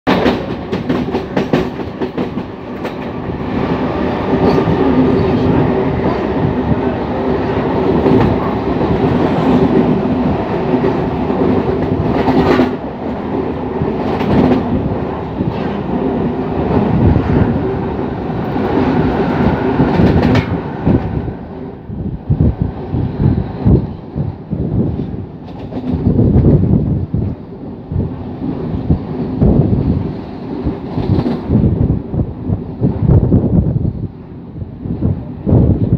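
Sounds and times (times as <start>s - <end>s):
electric train hum: 0.1s - 35.9s
train wheels rumbling: 0.1s - 35.9s.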